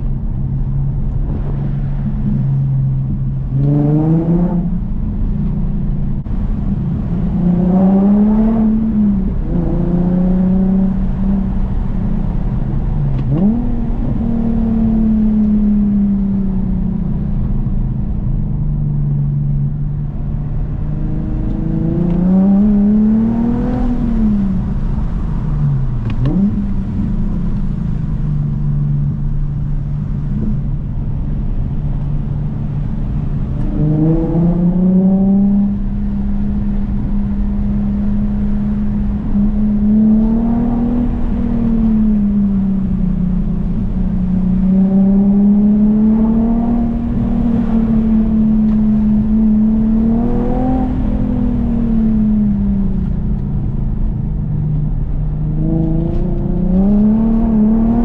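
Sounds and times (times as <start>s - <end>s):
car engine accelerating and shifting: 0.0s - 58.0s.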